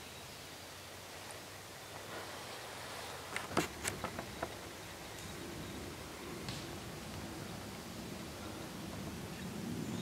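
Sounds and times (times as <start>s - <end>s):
outdoor background hiss: 0.0s - 10.0s
soft rustle: 1.1s - 9.2s.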